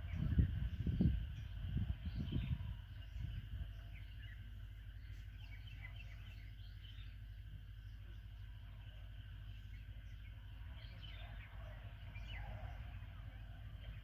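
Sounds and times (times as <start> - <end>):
low wind rumble: 0.0 - 14.0
small birds chirping faintly: 0.0 - 14.0.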